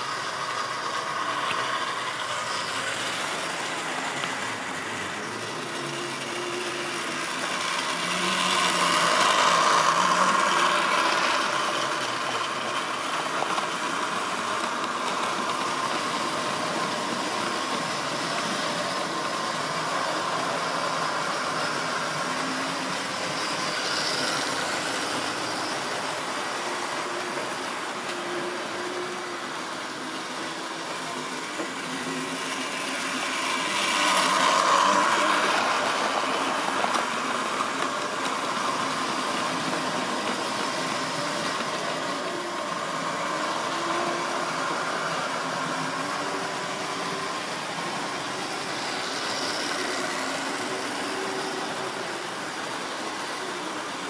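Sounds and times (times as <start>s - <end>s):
model train wheels rattling: 0.0s - 54.0s
small electric motors whirring: 0.0s - 54.0s.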